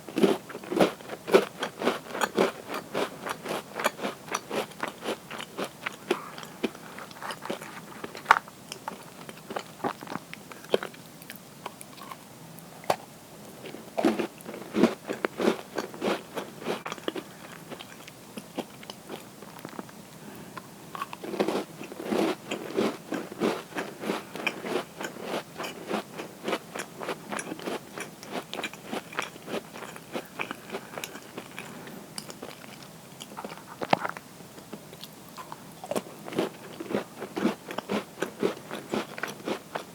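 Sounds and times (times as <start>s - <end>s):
crunching cookies: 0.1s - 12.2s, 12.9s - 20.0s, 20.9s - 39.9s.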